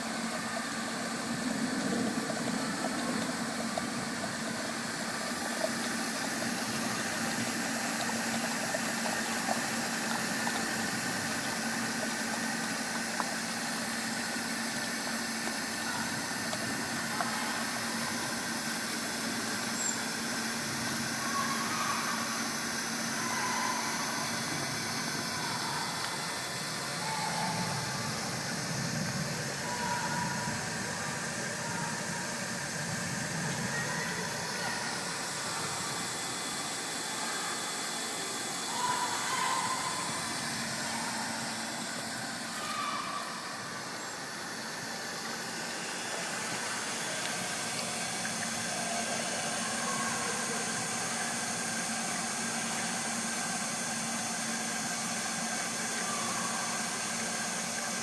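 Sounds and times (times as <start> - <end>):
machinery humming: 0.0 - 58.0.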